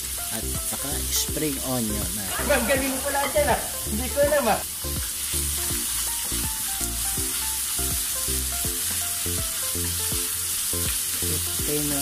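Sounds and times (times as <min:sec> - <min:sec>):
light plucked background music: 0:00.0 - 0:12.0
vegetables sizzling in a frying pan: 0:00.0 - 0:12.0.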